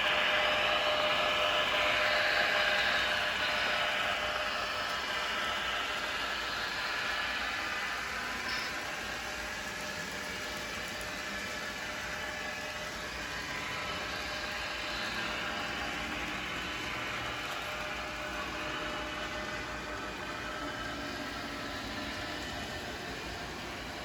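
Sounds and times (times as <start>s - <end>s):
model train whirring hum: 0.0s - 24.0s.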